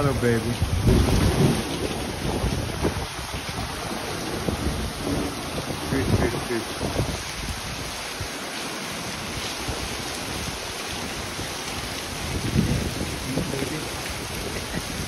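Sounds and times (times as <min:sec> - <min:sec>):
heavy rain on awning: 0:00.0 - 0:15.0.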